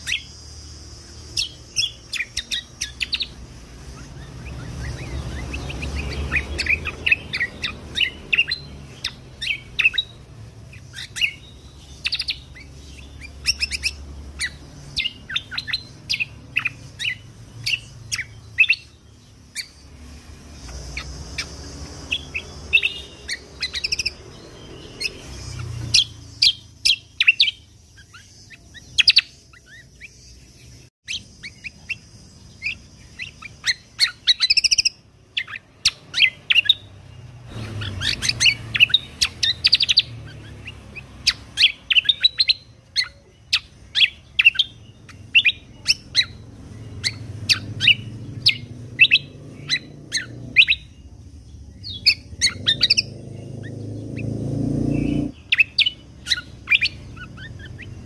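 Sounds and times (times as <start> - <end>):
bird singing sharp high chirps: 0.0 - 58.0.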